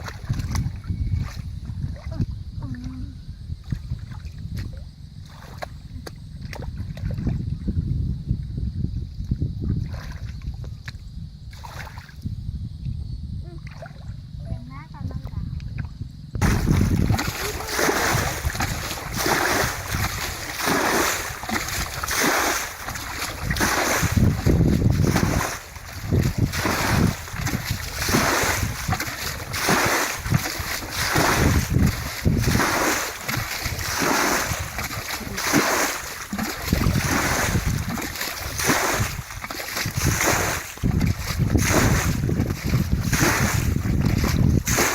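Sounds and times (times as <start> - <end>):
water sloshing and splashing: 0.0 - 3.0, 3.6 - 7.5, 9.7 - 12.2, 13.6 - 14.2, 15.8 - 44.9
wind rumble on microphone: 0.0 - 44.9.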